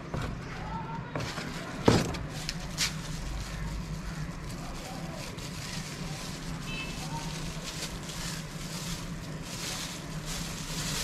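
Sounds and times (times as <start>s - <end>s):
plastic wrapping crinkling: 0.6s - 11.0s.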